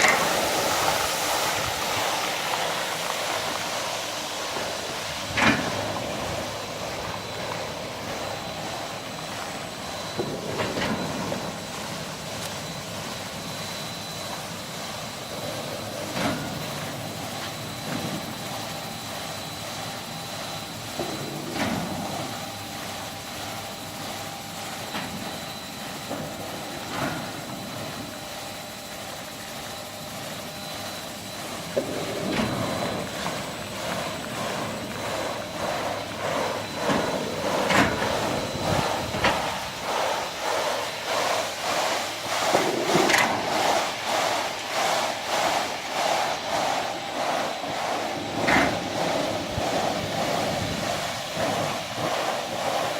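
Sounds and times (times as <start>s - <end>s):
carpet-washing machinery running: 0.0s - 52.9s
faint machine whine: 0.0s - 52.9s.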